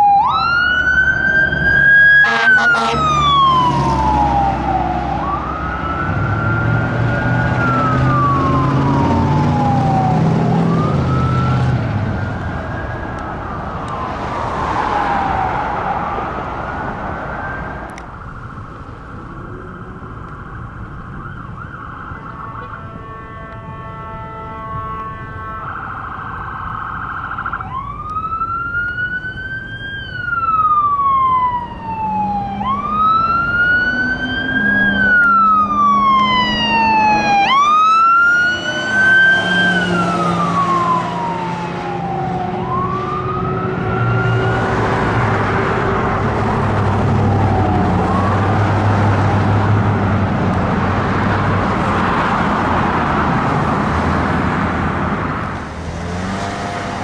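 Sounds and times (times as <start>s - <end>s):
fire truck siren wailing: 0.0s - 57.0s
traffic noise: 0.0s - 57.0s
truck engine: 0.0s - 57.0s.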